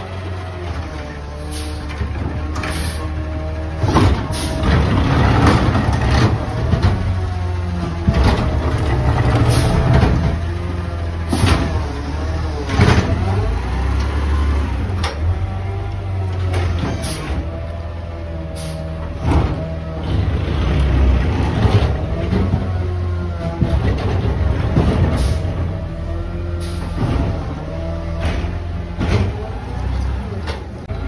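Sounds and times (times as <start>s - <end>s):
truck engine under load: 0.0s - 31.0s.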